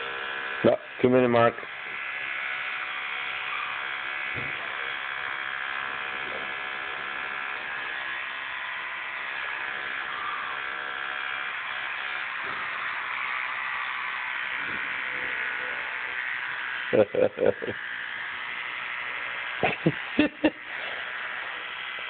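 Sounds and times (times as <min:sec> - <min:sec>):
electric toothbrush buzzing: 0:00.0 - 0:22.0.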